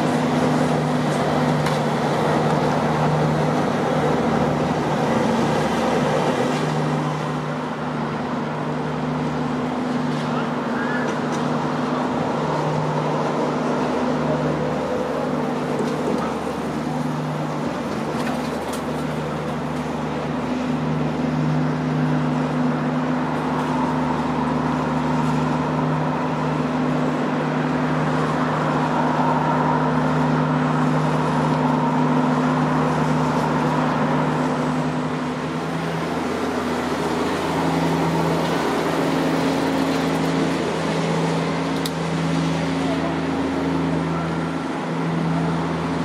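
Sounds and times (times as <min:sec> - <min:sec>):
low hum with held tones: 0:00.0 - 0:46.0.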